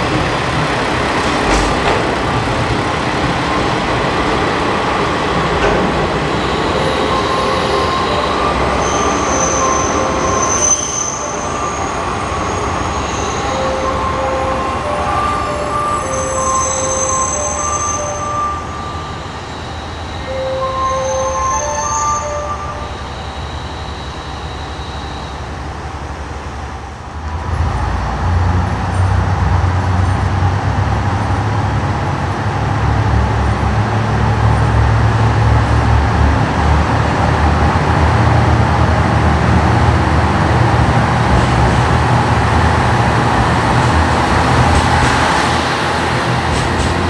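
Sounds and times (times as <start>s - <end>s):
diesel train engine rumble: 0.0s - 47.0s.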